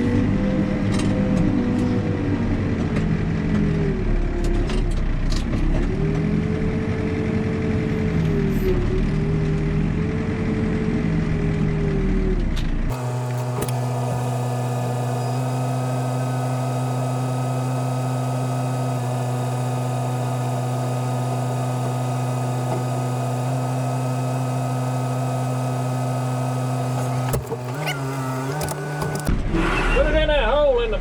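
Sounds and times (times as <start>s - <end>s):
heavy diesel engine droning: 0.0s - 29.8s.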